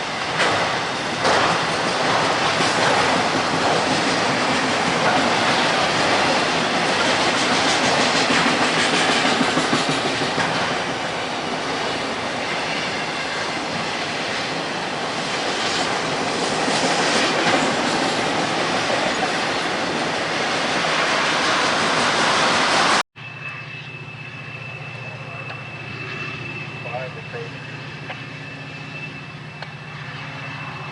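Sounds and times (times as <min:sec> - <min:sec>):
freight train wheels on rail: 0:00.0 - 0:30.9.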